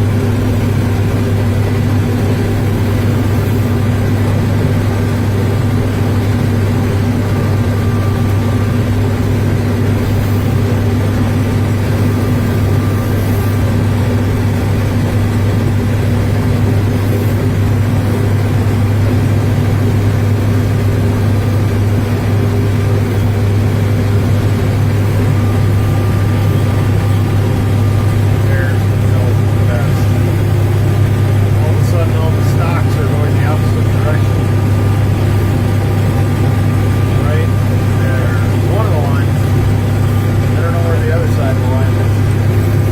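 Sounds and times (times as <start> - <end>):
engine humming steadily: 0.0 - 42.9.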